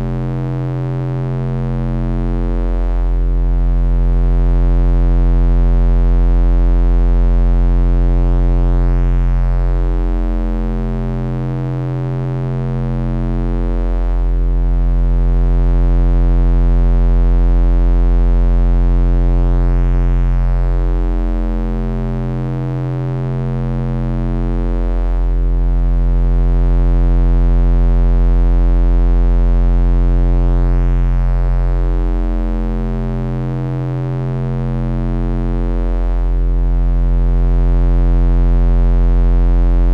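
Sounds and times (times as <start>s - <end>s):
synthesized bass drone: 0.0s - 39.9s.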